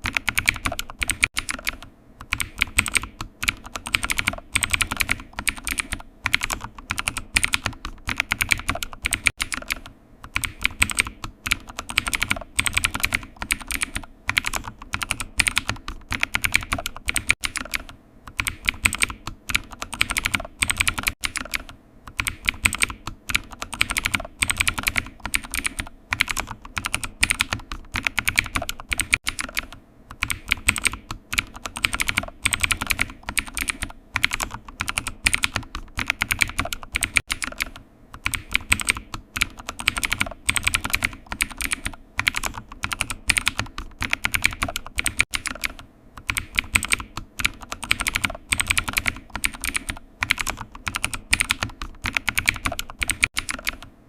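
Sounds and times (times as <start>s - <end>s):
fast typing on computer keyboard: 0.0s - 53.9s.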